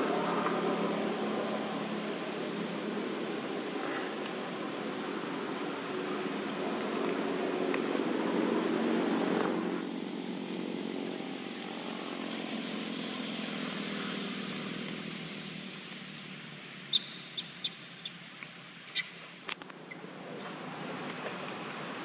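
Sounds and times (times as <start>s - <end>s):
steady hiss: 0.0s - 19.4s.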